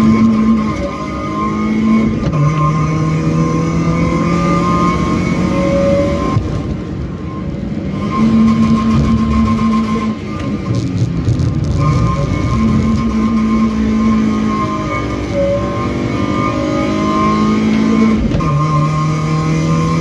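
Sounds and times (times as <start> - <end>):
car engine running hard: 0.0 - 20.0
road and wind noise: 0.0 - 20.0.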